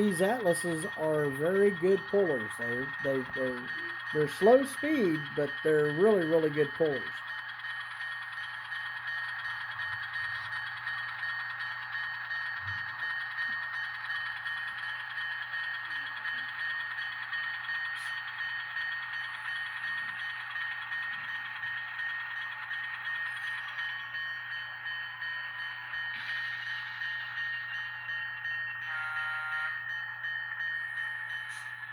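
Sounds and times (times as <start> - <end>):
constant high tone: 0.0 - 31.9
model locomotive diesel chug: 0.0 - 31.9.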